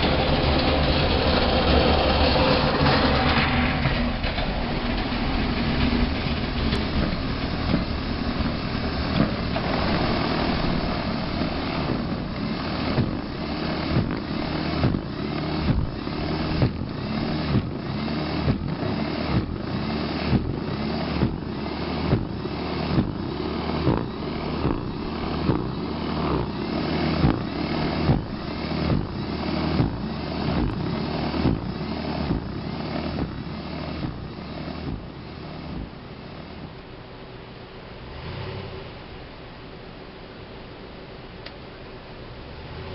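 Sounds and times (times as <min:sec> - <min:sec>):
electric snow shovel motor running: 0:00.0 - 0:36.8.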